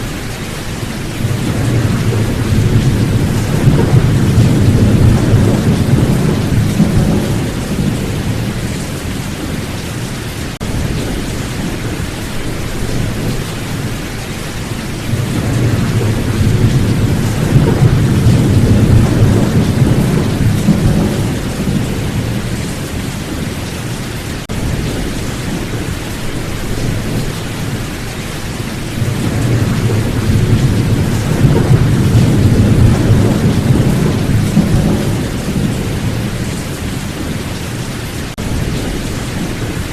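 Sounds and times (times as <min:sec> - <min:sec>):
low rolling thunder: 0:00.0 - 0:09.8, 0:10.6 - 0:23.7, 0:24.5 - 0:37.4
steady rain: 0:00.0 - 0:39.9.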